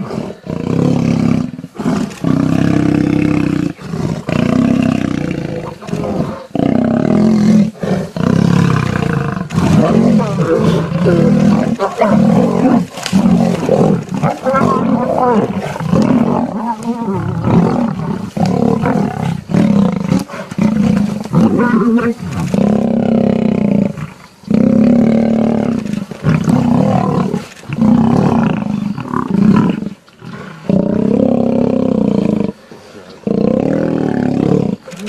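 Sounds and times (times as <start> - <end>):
lions roaring: 0.0 - 32.6, 33.2 - 35.0.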